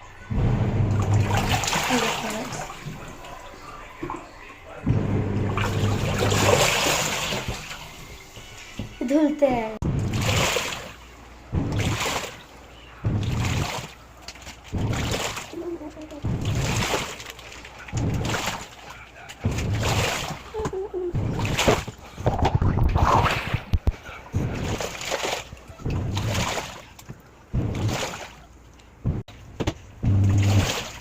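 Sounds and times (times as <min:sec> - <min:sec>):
washing machine water sloshing: 0:00.0 - 0:31.0.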